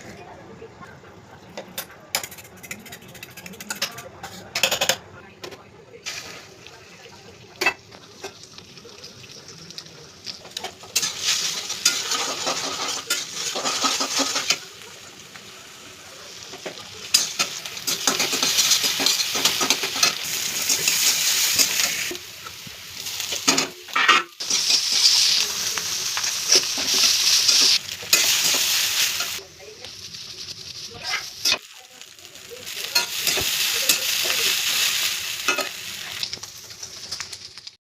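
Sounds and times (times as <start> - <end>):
food sizzling in a pan: 6.0 - 37.8.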